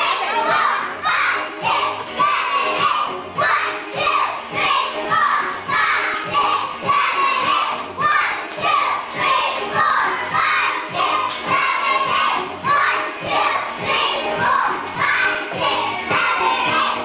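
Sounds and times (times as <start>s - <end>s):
song with steady beat: 0.0s - 17.0s.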